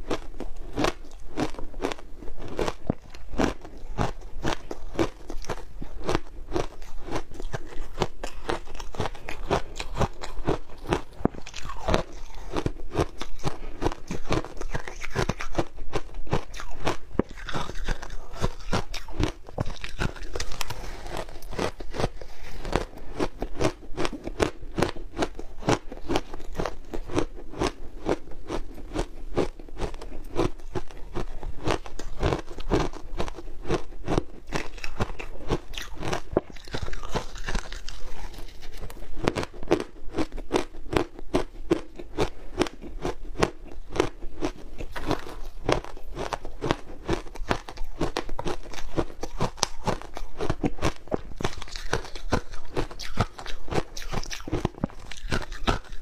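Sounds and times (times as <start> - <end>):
ice crunching as chewed: 0.0 - 56.0.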